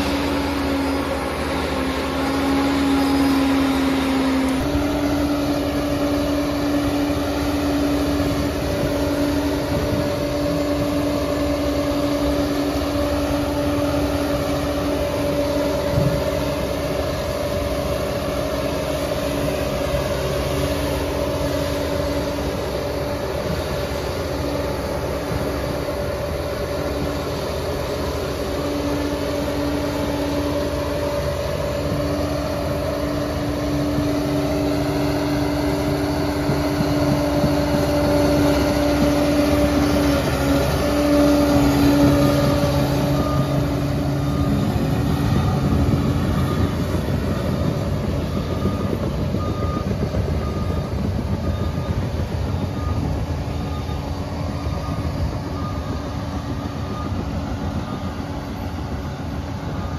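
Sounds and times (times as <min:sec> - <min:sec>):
dozer engine whining: 0:00.0 - 0:59.9
reversing alarm beeping: 0:00.0 - 0:59.9.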